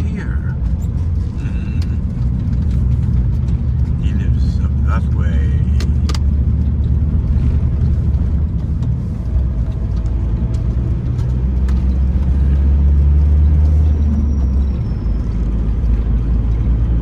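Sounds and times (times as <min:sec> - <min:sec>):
engine and road drone: 0:00.0 - 0:17.0.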